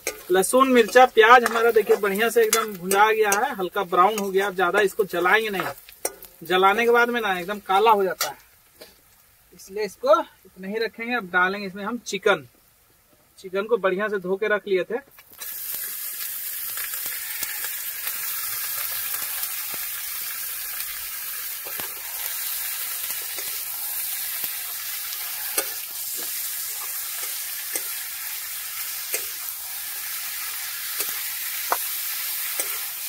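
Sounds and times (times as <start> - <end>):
chicken sizzling in oil: 0.0 - 10.6, 15.1 - 33.0.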